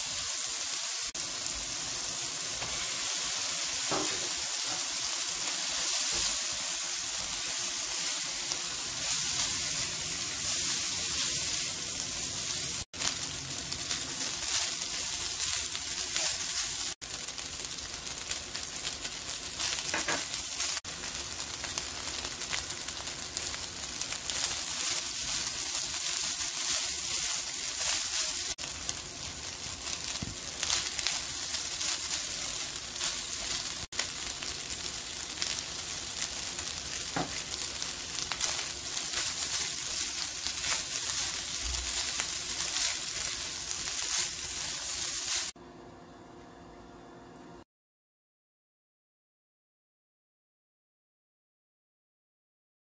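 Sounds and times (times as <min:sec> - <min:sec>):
rice sizzling in a wok: 0:00.0 - 0:45.6.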